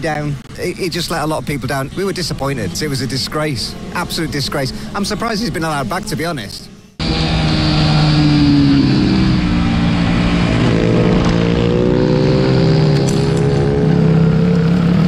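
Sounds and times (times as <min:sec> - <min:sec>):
second bike engine: 0:01.5 - 0:15.0
minibike engine at speed: 0:01.9 - 0:15.0.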